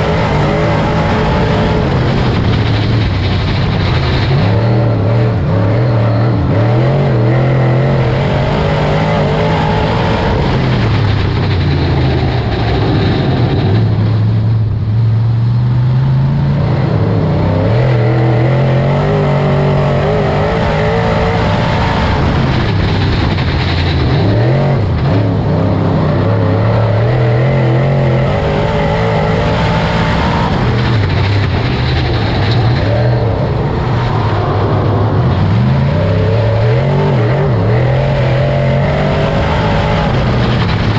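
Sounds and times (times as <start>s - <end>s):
race car engine revving: 0.0s - 40.9s.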